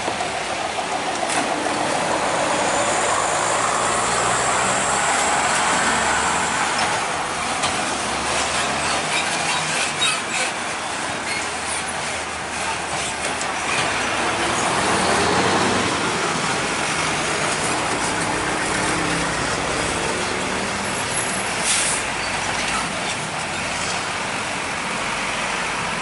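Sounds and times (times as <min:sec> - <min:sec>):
heavy diesel trucks rolling past: 0:00.0 - 0:26.0.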